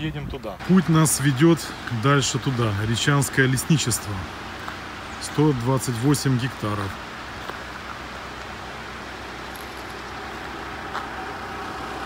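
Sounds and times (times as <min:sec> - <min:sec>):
car driving: 0:00.0 - 0:12.0.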